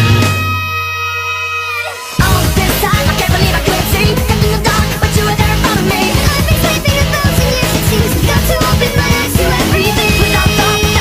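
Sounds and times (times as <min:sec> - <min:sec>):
driving drum beat: 0:00.0 - 0:00.7, 0:02.2 - 0:11.0
loud rock music: 0:00.0 - 0:11.0.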